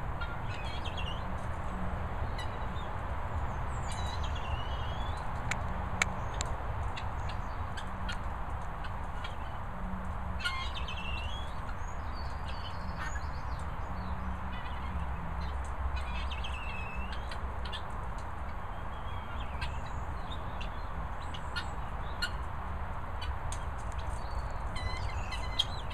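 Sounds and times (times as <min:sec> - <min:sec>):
guinea fowl chicks chirping: 0:00.1 - 0:22.5, 0:23.2 - 0:25.9.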